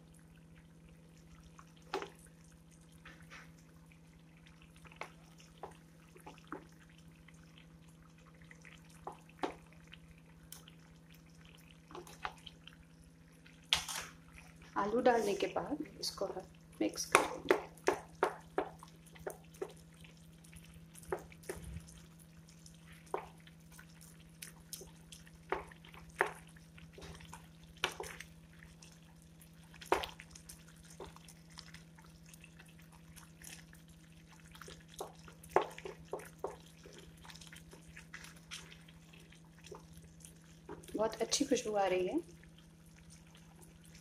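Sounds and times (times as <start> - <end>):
spatula stirring thick mix: 0.4 - 12.8, 13.4 - 44.0.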